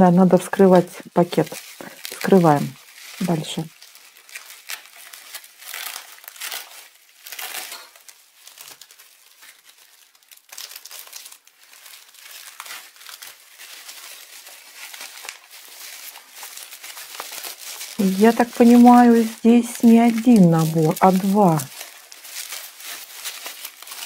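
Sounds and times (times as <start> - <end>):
bubble wrap crinkling: 0.0 - 24.0.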